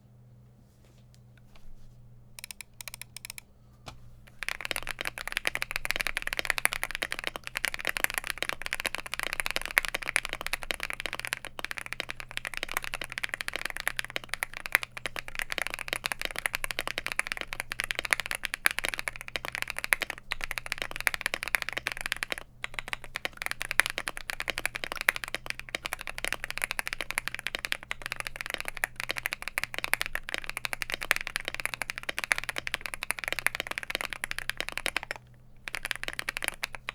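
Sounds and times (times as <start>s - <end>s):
fast mechanical keyboard typing: 2.4s - 3.4s, 4.3s - 36.9s.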